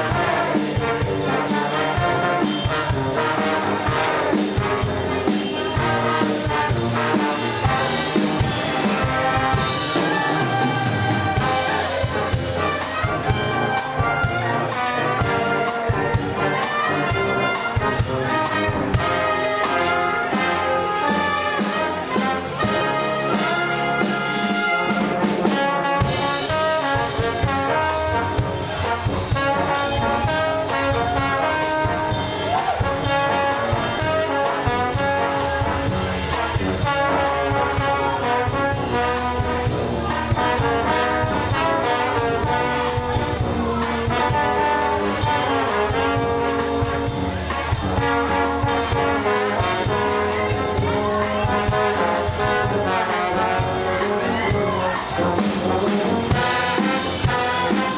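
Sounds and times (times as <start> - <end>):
brass band playing: 0.0 - 57.9.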